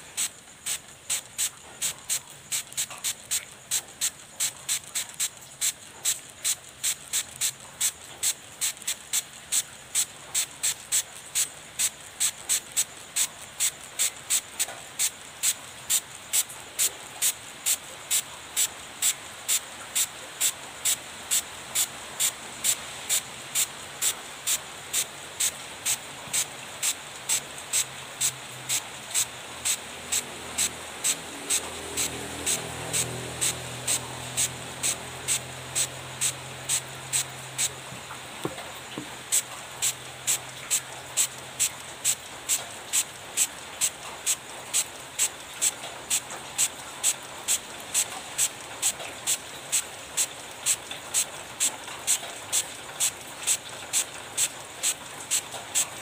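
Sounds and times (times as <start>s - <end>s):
spray bottle squirting: 0.0s - 56.0s
steady hiss: 0.0s - 56.0s.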